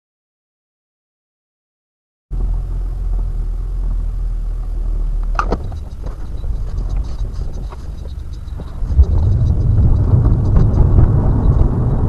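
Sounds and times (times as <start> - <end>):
car engine and road noise: 2.3 - 12.0.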